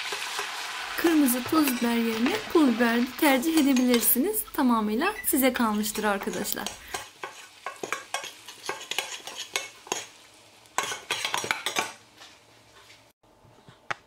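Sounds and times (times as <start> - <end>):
faint butter sizzle: 0.0 - 11.6.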